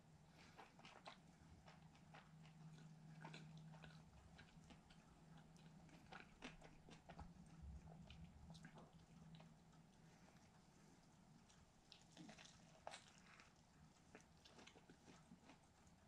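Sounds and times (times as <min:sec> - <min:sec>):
chewing crunchy food: 0:00.0 - 0:16.0
steady low hum: 0:00.0 - 0:16.0.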